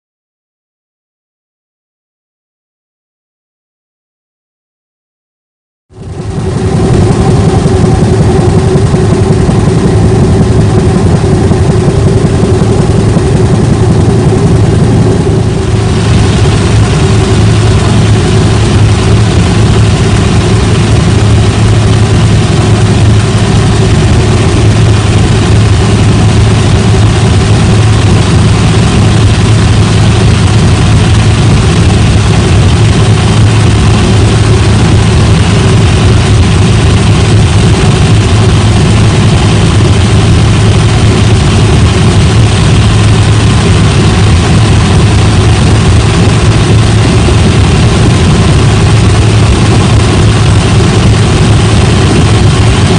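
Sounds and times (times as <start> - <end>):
helicopter cabin drone: 5.9 - 52.9.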